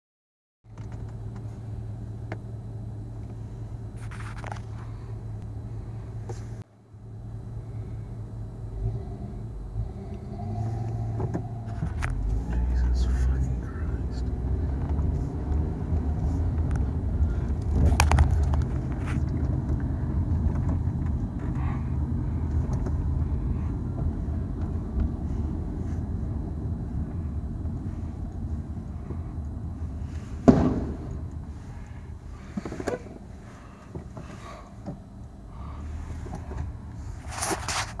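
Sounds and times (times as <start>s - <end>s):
car driving rumble: 0.6s - 38.0s.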